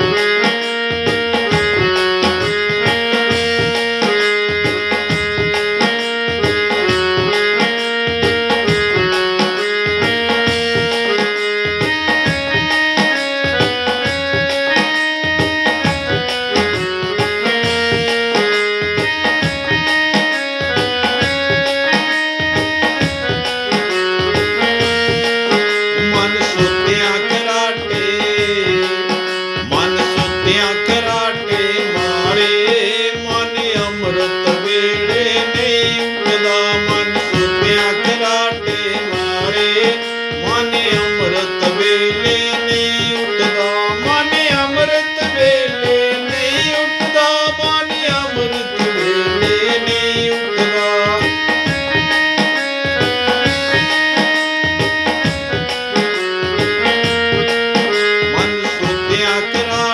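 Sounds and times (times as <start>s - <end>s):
devotional melody of held notes: 0.0s - 59.9s
tabla drumming: 0.0s - 59.9s.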